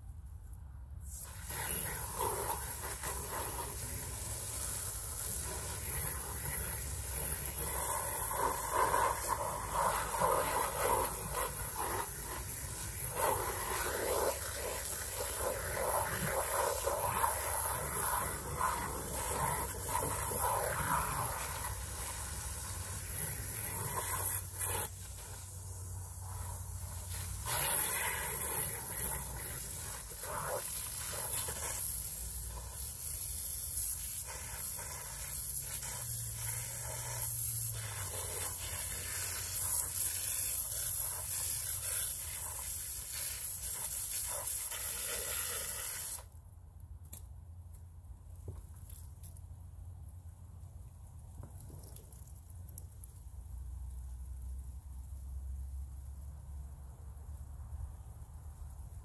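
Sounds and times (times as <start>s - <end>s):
hose spray hissing on plastic: 1.0s - 46.4s, 50.9s - 59.0s.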